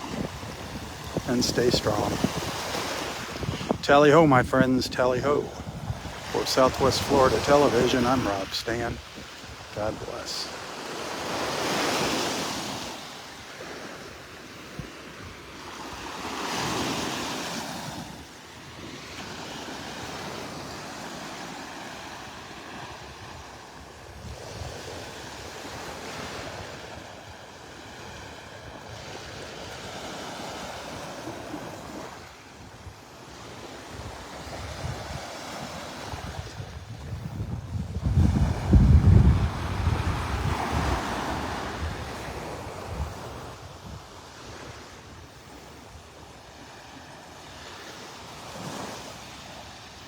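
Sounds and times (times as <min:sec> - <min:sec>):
surf washing up a beach: 0:00.0 - 0:50.0.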